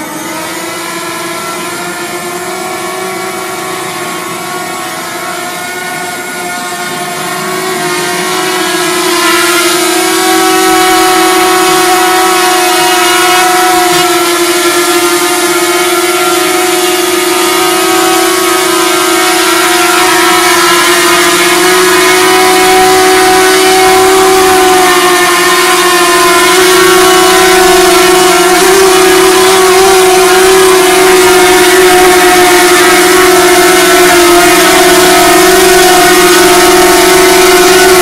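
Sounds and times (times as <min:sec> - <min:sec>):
drone propellers humming: 0:00.0 - 0:38.0.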